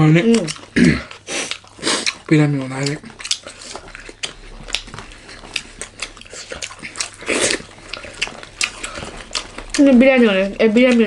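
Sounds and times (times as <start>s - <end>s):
people chewing and mouth sounds: 0.0s - 11.0s.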